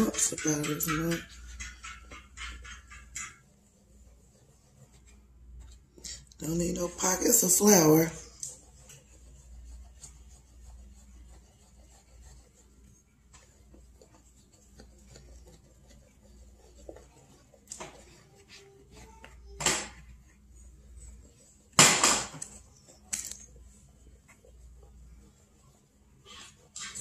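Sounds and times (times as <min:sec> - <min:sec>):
spoon scraping mixing bowl: 0:00.0 - 0:27.0.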